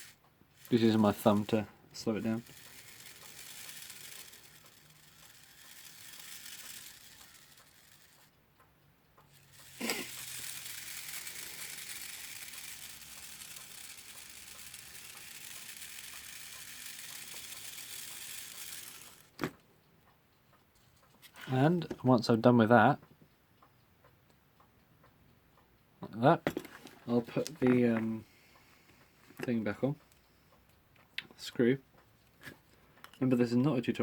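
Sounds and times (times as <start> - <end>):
clock gear train whirring: 0.0 - 23.8, 24.6 - 30.8, 31.4 - 34.0.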